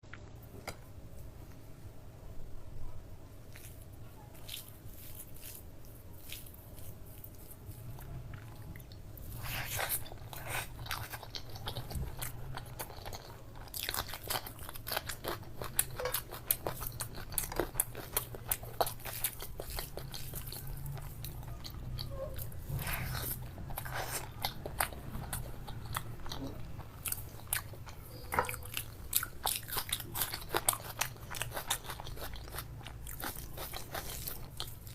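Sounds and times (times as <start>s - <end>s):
person chewing food: 3.5s - 34.9s.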